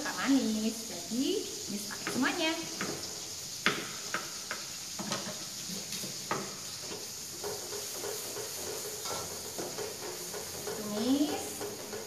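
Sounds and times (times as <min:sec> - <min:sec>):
spatula stirring in a wok: 0:00.0 - 0:12.0
spice paste sizzling in oil: 0:00.0 - 0:12.0.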